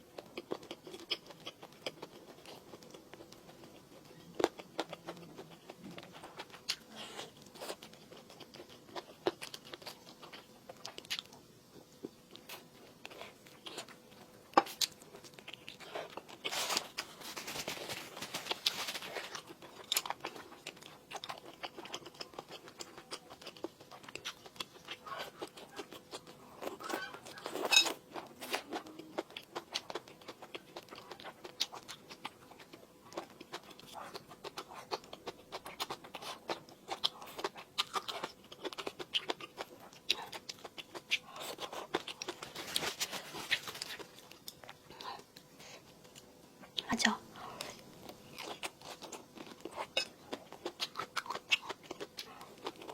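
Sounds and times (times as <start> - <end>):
person chewing and crunching food: 0.0 - 52.9.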